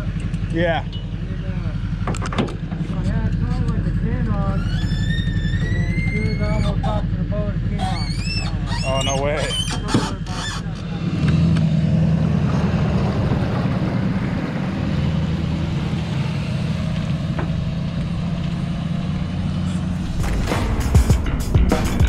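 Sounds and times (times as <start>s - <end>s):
truck engine running under load: 0.0s - 20.9s.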